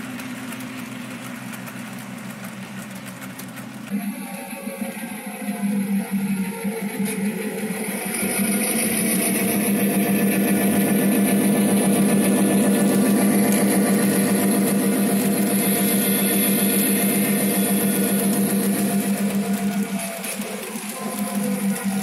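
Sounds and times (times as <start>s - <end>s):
model train humming past: 0.0s - 22.0s.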